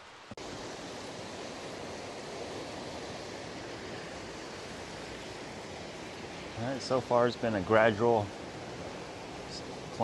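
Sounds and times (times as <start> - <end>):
fast-flowing creek rushing: 0.0 - 10.0.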